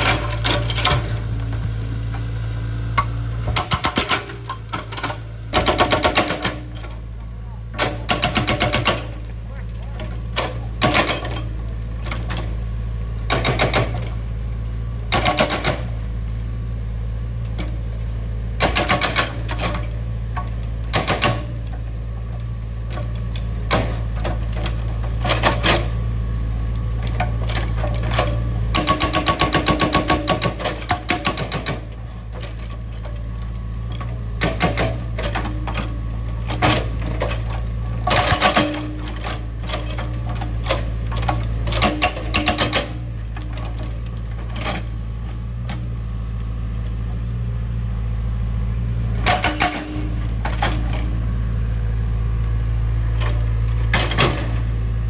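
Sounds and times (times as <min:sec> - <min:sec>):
excavator engine humming: 0:00.0 - 0:55.0.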